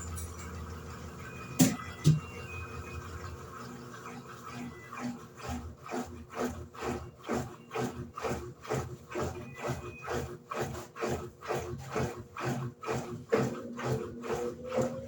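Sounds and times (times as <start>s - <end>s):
washing machine agitating water: 0.0s - 15.0s.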